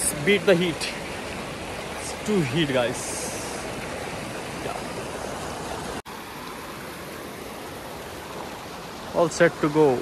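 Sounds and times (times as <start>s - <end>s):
whitewater river rushing: 0.0s - 10.0s.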